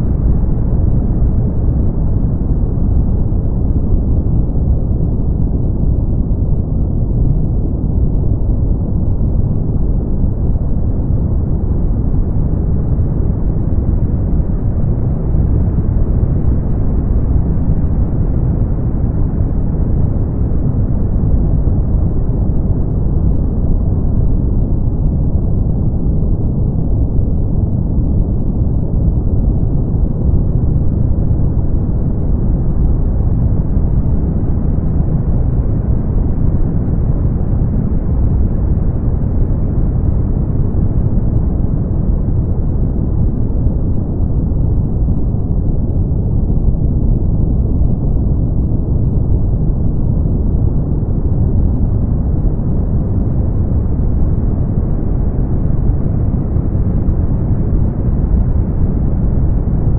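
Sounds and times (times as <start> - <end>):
brown noise: 0.0 - 59.9.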